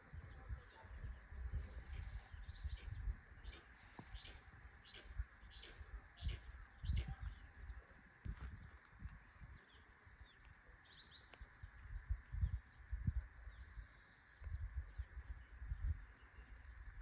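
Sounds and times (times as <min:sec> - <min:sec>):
bird chirping: 0:00.0 - 0:08.4, 0:09.3 - 0:17.0.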